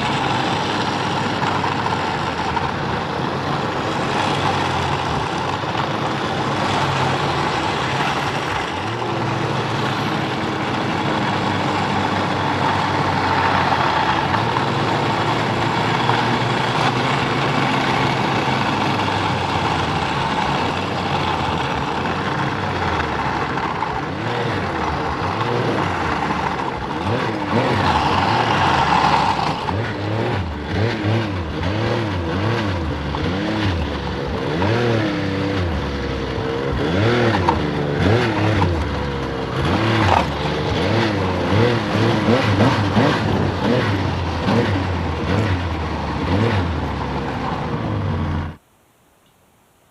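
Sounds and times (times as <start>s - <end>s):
snowmobile engine running hard: 0.0s - 48.6s.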